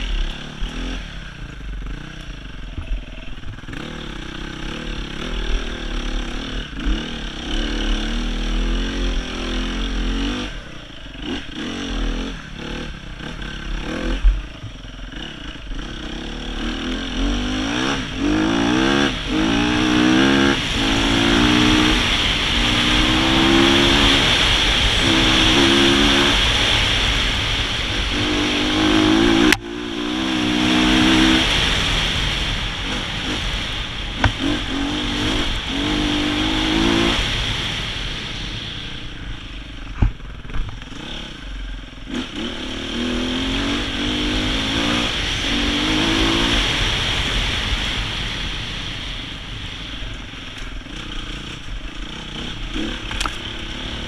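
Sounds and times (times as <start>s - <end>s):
motorcycle engine revving: 0.0s - 54.0s
rushing wind hiss: 3.3s - 54.0s.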